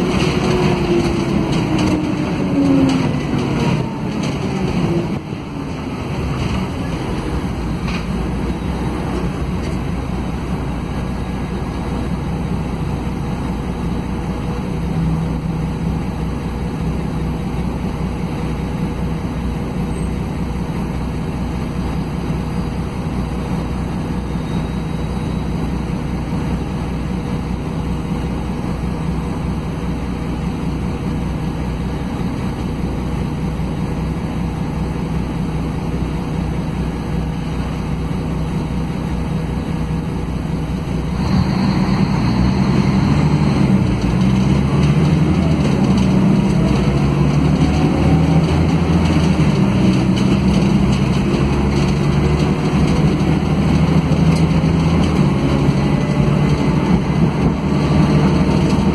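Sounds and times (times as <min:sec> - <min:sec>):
bus engine humming: 0:00.0 - 0:58.9
road noise: 0:00.0 - 0:58.9.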